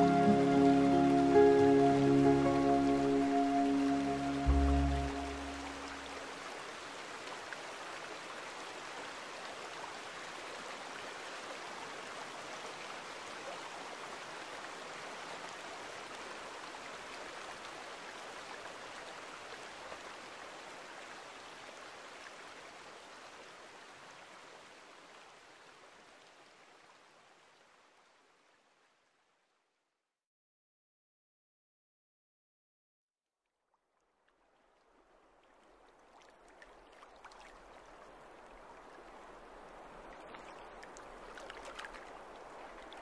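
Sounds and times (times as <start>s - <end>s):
stream water running: 0.0s - 28.8s, 34.0s - 43.0s.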